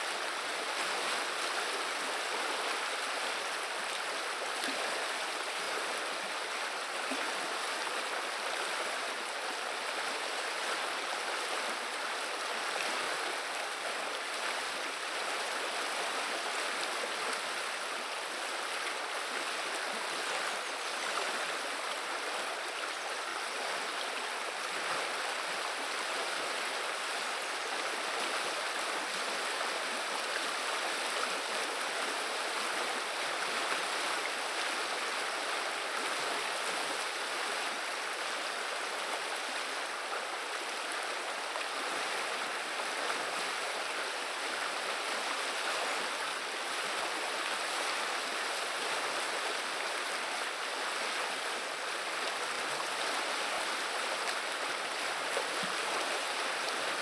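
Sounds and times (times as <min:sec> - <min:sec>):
river water babbling: 0:00.0 - 0:57.0.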